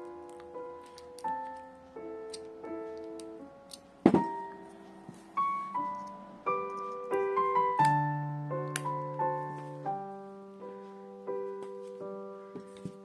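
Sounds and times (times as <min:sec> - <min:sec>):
piano notes: 0:00.0 - 0:13.0.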